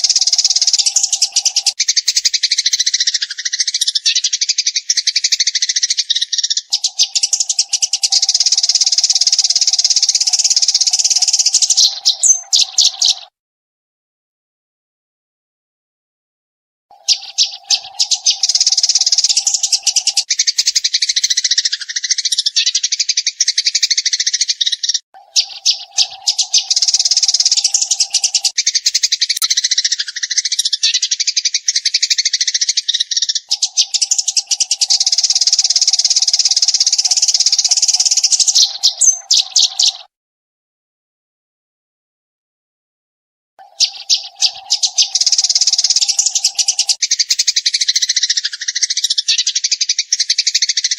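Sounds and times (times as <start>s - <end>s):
sparrows chirping: 0.0s - 13.4s, 16.9s - 40.1s, 43.6s - 50.9s.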